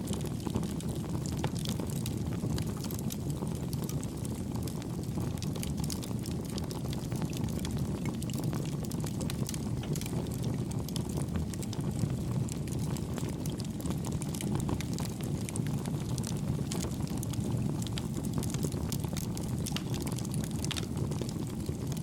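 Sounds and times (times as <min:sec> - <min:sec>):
campfire flames rumbling: 0:00.0 - 0:22.0
fire crackles and pops: 0:00.0 - 0:22.0.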